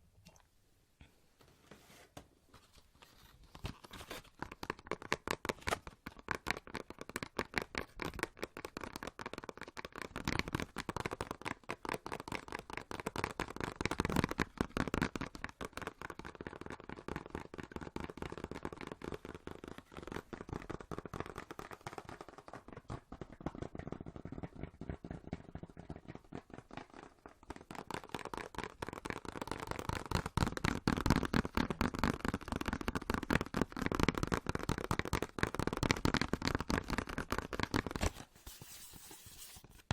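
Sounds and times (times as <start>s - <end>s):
fast tapping and clicks: 4.3s - 38.1s.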